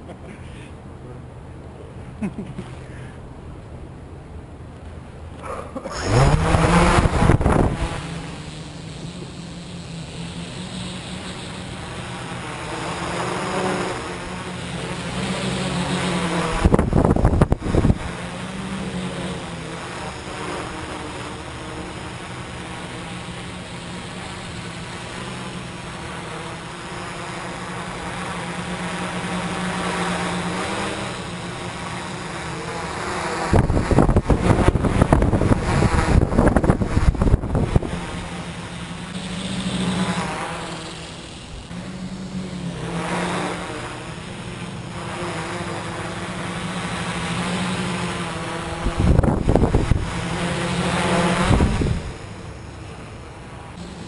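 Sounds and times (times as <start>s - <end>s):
drone motors buzzing: 0.0s - 54.0s
propeller wind rush on microphone: 0.8s - 54.0s.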